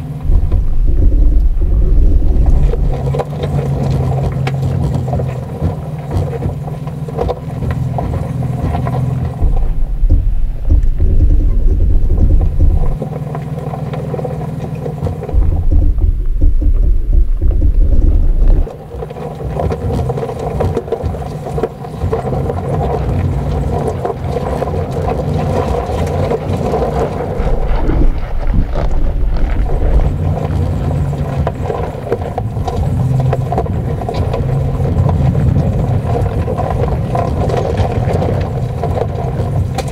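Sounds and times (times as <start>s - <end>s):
vehicle engine rumbling off-road: 0.0s - 39.9s.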